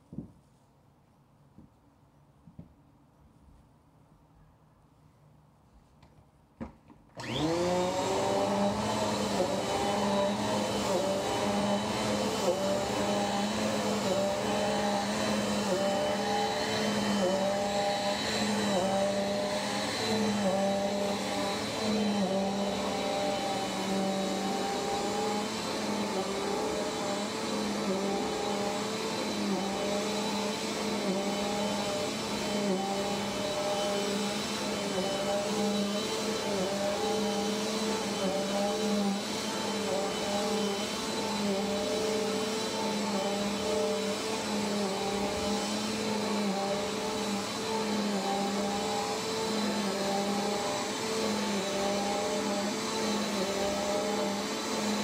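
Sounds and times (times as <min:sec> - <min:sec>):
vacuum cleaner running on carpet: 0:07.1 - 0:55.0.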